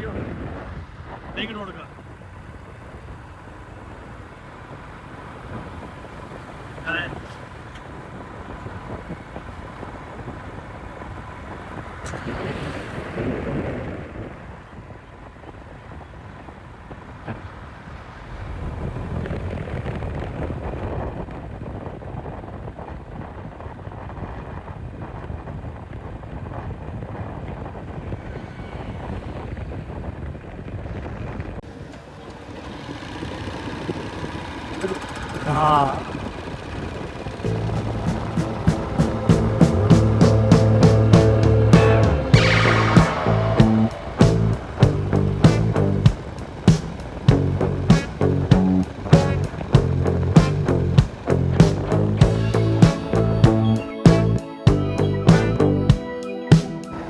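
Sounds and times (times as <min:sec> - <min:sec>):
wind on microphone: 0:00.0 - 0:03.2, 0:05.5 - 0:31.6, 0:36.1 - 0:54.2
motorcycle engine and road rumble: 0:00.0 - 0:56.0.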